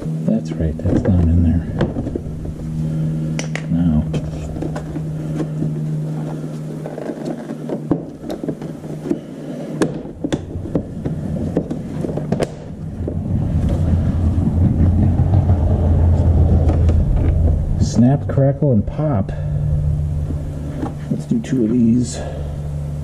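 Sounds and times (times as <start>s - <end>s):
low rumble: 0.0s - 9.0s, 9.8s - 23.0s
steady low hum: 0.0s - 23.0s.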